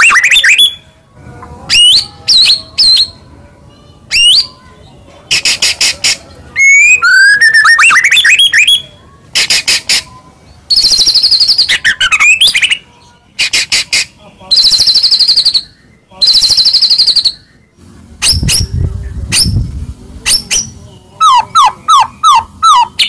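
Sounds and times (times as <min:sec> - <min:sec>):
songbird singing varied phrases: 0:01.7 - 0:23.0.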